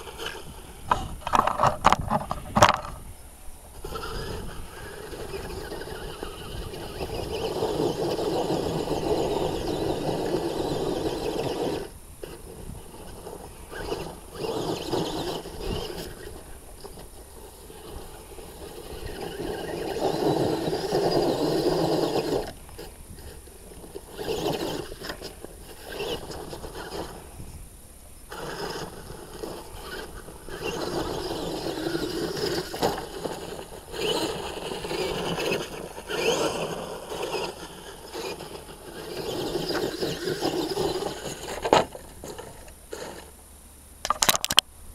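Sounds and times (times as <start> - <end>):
toy truck electric motor whining: 0.0 - 3.0, 3.7 - 27.4, 28.3 - 43.4.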